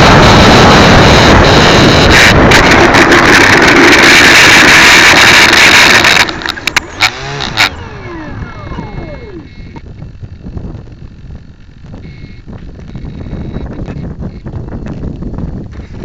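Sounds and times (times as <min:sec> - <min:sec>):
motor whine falling in pitch: 0:00.0 - 0:16.0
rushing wind and motor noise: 0:00.0 - 0:16.0.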